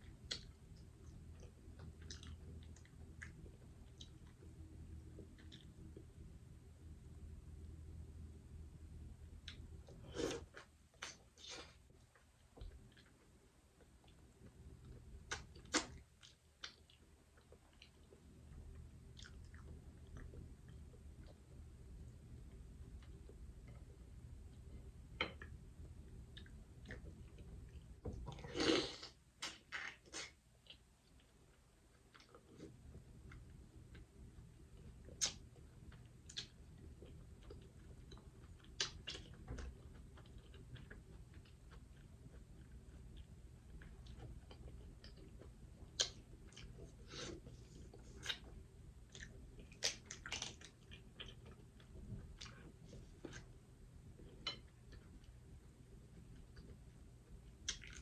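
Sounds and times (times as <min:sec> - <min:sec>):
chewing and wet mouth sounds: 0:00.0 - 0:06.2, 0:09.4 - 0:58.0.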